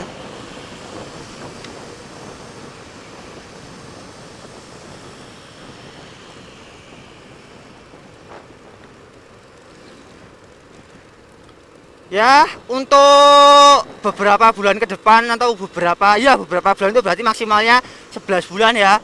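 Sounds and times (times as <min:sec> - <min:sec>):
faint motorcycle engine: 0:00.0 - 0:19.0
wind rushing over microphone: 0:00.0 - 0:19.0.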